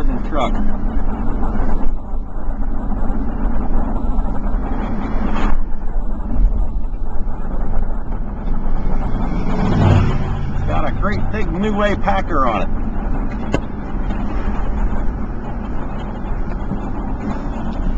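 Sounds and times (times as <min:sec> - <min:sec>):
traffic noise: 0:00.0 - 0:17.9
vehicle engine rumbling: 0:00.0 - 0:17.9.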